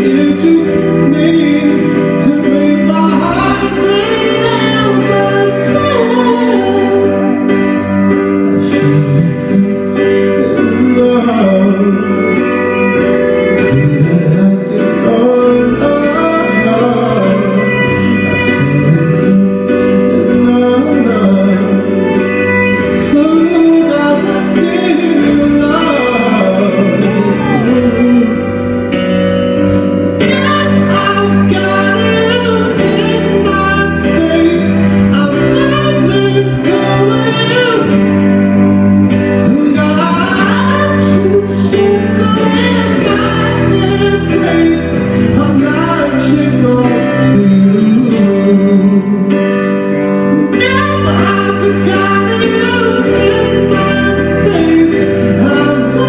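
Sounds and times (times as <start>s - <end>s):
guitar accompaniment: 0.0s - 56.0s
man singing into microphone: 0.0s - 56.0s.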